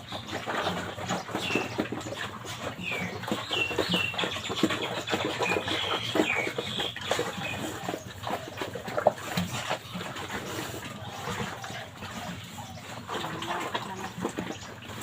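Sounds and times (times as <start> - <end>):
pig chewing and smacking food: 0.0 - 15.0.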